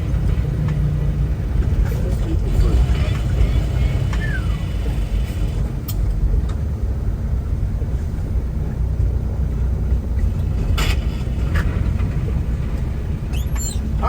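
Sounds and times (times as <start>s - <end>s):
road noise: 0.0s - 14.0s
truck engine rumble: 0.0s - 14.0s.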